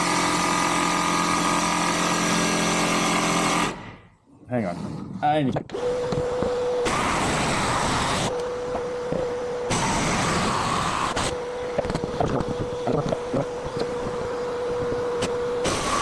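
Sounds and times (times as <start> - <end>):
power tool cutting noise: 0.0 - 4.0, 5.7 - 16.0
power tool humming: 0.0 - 4.0, 5.7 - 16.0.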